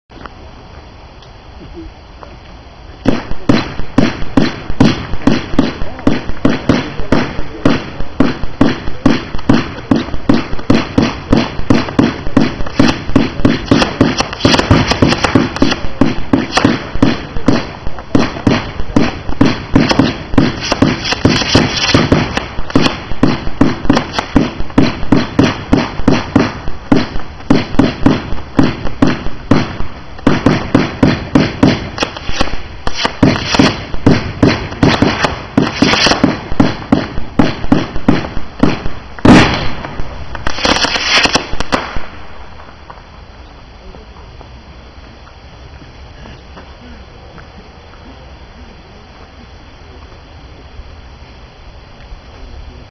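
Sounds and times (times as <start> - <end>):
fireworks launching: 0.2 - 52.9
fireworks popping and crackling: 0.2 - 52.9.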